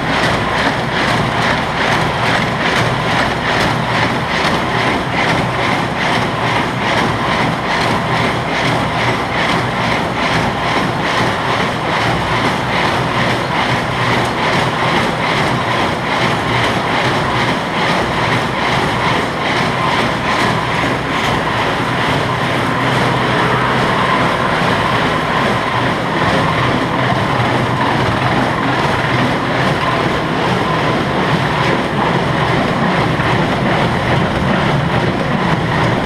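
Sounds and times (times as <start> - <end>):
baler rhythmic clatter: 0.0 - 36.0
low engine drone: 0.0 - 36.0.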